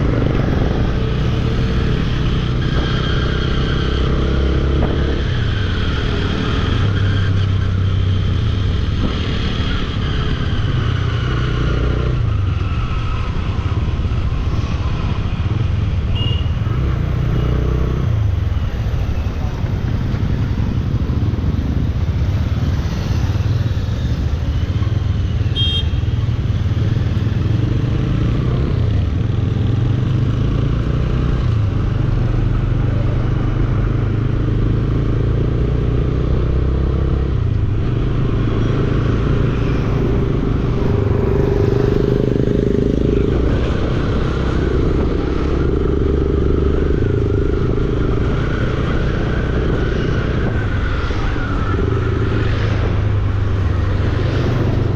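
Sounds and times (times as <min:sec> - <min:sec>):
road noise: 0:00.0 - 0:54.9.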